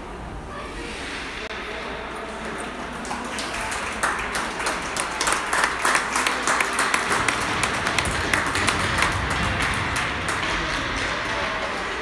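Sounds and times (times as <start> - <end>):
echoing applause: 2.1 - 12.0.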